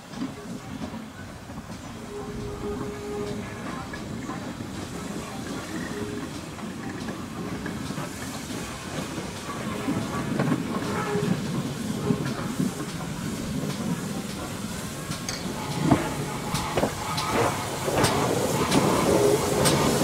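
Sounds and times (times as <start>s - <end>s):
steam locomotive running slowly: 0.0s - 20.0s.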